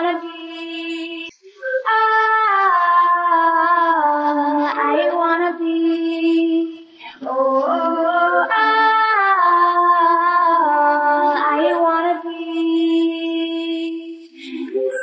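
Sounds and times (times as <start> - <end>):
woman singing wordless melody: 0.0 - 15.0.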